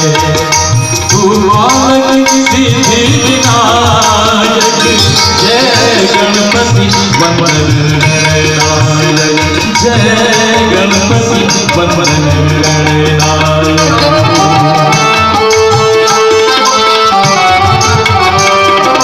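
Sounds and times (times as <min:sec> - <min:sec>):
hand drum rhythm: 0:00.0 - 0:19.0
sustained melody: 0:00.0 - 0:19.0.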